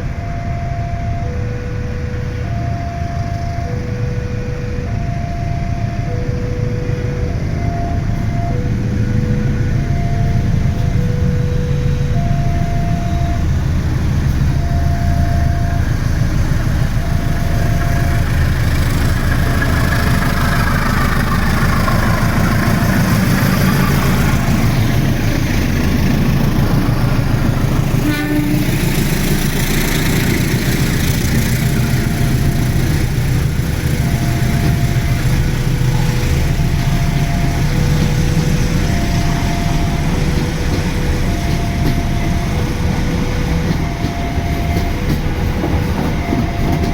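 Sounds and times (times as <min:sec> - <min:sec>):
diesel locomotive engine rumble: 0:00.0 - 0:46.9
two-tone electronic warning alarm: 0:00.0 - 0:46.9.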